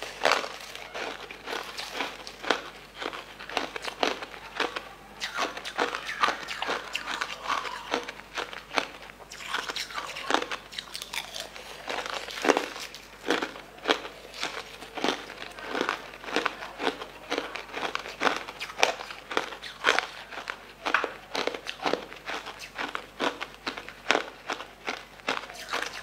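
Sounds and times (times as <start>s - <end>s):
ice crunched between teeth: 0.0s - 26.0s.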